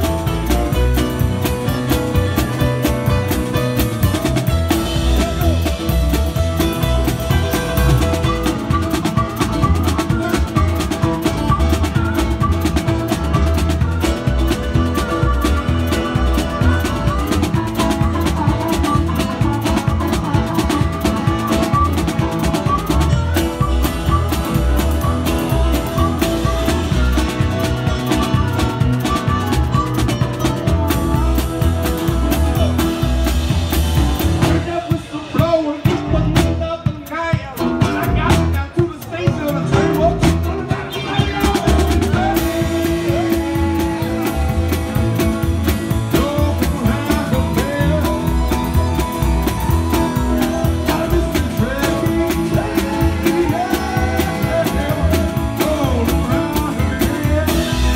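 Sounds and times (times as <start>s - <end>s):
drum kit beat: 0.0s - 57.9s
rock and roll band playing: 0.0s - 57.9s.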